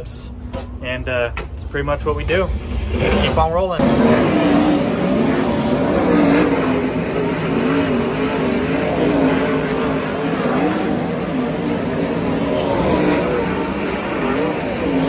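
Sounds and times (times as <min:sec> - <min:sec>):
race car engine revving: 0:01.0 - 0:15.0.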